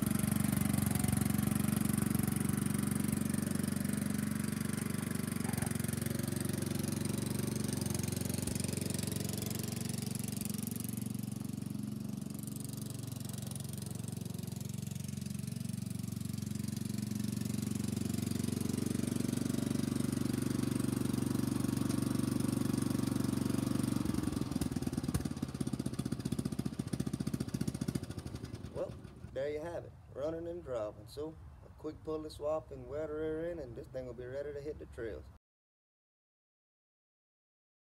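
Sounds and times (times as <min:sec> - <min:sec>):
riding mower engine running: 0:00.0 - 0:35.2.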